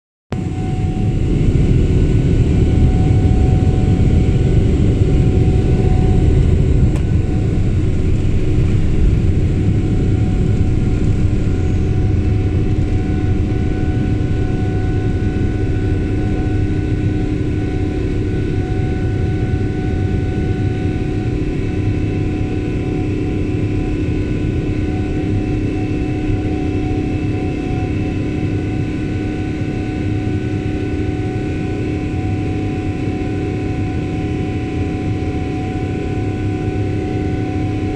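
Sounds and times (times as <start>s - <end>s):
jet engines roaring: 0.4s - 37.9s.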